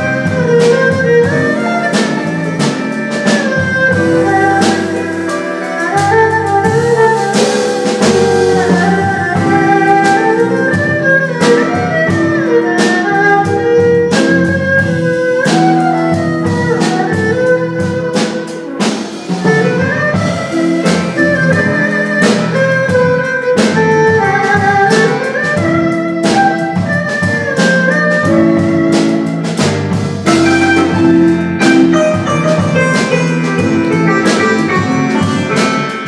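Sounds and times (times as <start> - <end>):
instrumental jazz music: 0.0 - 36.0.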